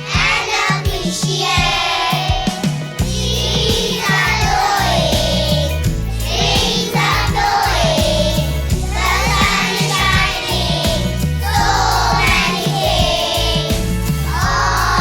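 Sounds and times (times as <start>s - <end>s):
children's choir singing: 0.0s - 15.0s
instrumental accompaniment with beat: 0.0s - 15.0s.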